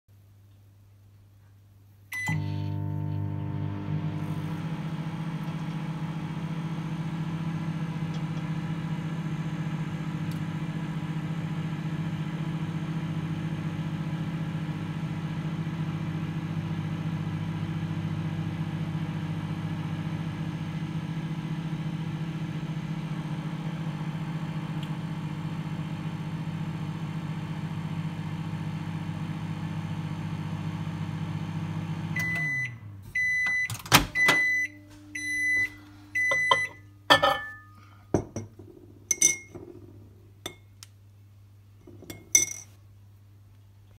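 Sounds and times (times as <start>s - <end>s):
microwave oven humming: 2.1s - 38.3s.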